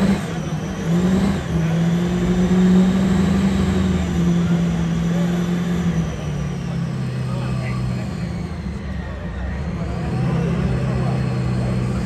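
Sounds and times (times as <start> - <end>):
car engine revving high: 0.0 - 12.0.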